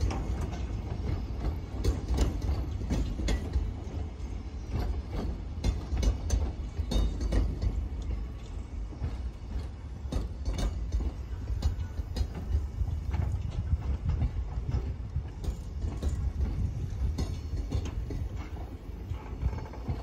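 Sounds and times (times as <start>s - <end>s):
freight train rumbling: 0.0s - 20.0s
wagons clicking and clanking: 0.0s - 20.0s.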